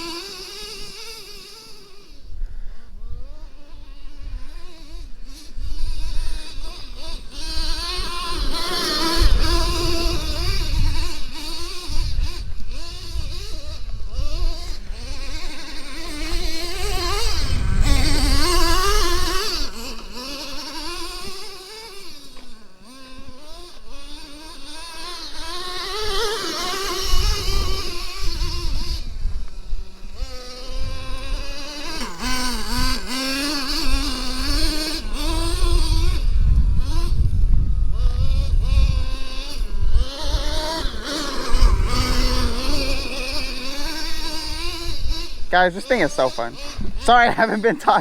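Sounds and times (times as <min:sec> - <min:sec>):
small nitro engine revving: 0:00.0 - 0:48.0.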